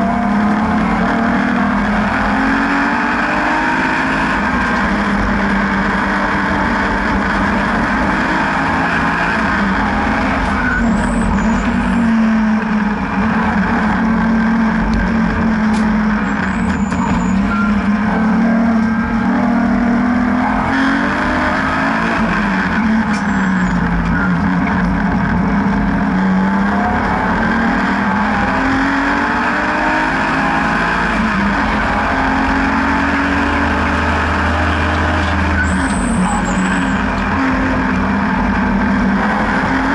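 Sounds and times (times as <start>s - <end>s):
car engine revving: 0.0s - 39.9s
wind and tyre noise: 0.0s - 39.9s.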